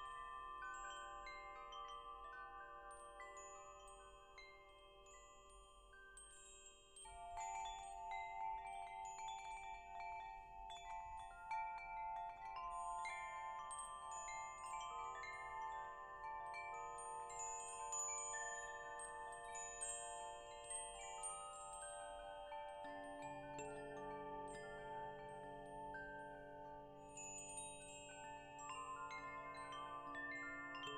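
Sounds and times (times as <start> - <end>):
wind chimes ringing: 0.0 - 30.9.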